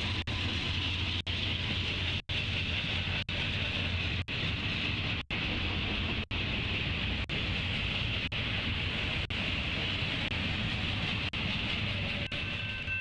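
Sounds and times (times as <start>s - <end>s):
freight train rolling rumble: 0.0s - 13.0s.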